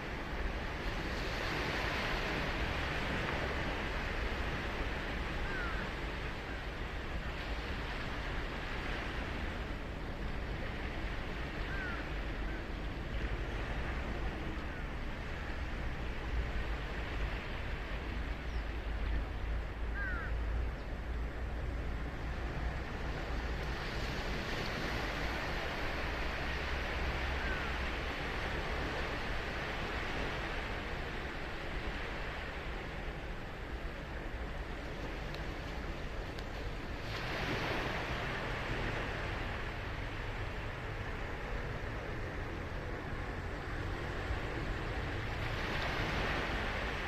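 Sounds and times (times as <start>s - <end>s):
ocean surf washing onto beach: 0.0s - 47.0s.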